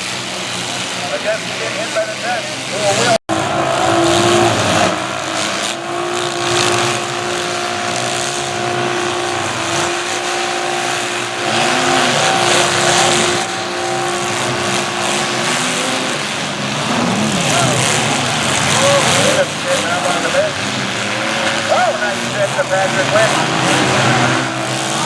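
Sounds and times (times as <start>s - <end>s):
car engines running hard: 0.0s - 25.0s
engines revving: 0.0s - 25.0s.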